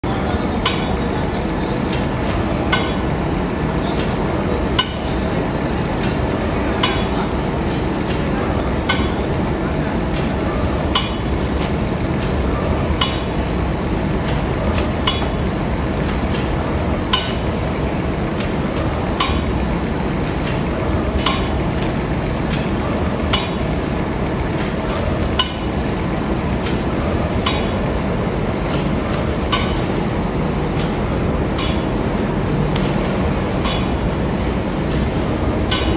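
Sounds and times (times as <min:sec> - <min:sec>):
packing machine running: 0:00.0 - 0:35.9.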